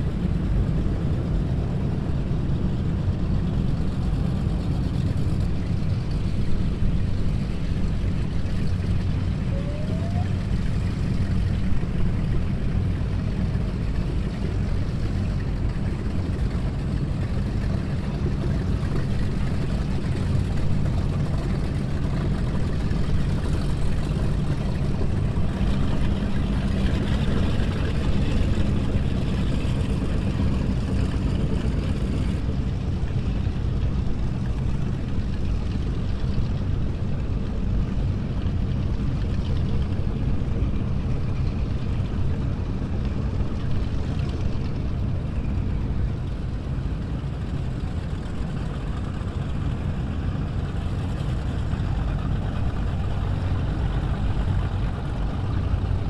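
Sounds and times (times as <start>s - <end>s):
boat engines idling: 0.0s - 56.0s.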